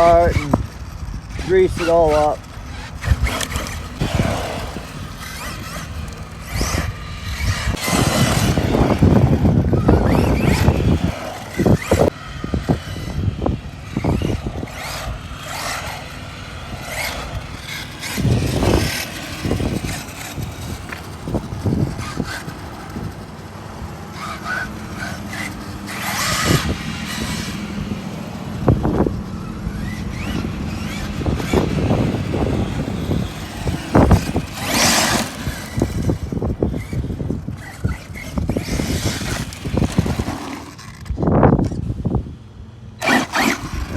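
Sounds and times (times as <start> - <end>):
electric motor whining: 0.0 - 42.2, 42.9 - 43.9
tires churning dirt: 0.0 - 43.9.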